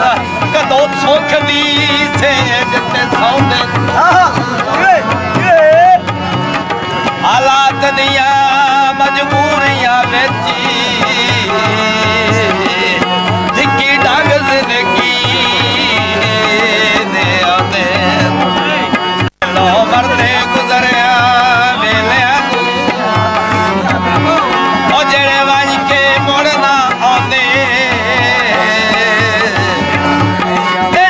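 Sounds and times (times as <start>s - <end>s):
harmonium chords: 0.0s - 31.0s
man singing: 0.0s - 31.0s
tabla beat: 0.0s - 31.0s.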